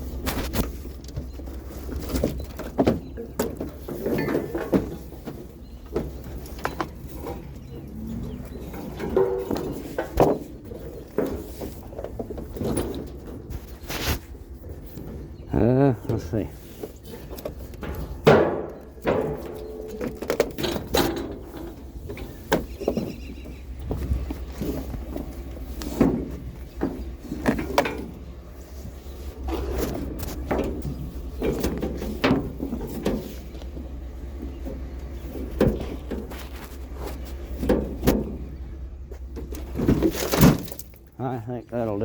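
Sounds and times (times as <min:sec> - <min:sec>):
knocks and scraping of items: 0:00.0 - 0:41.2.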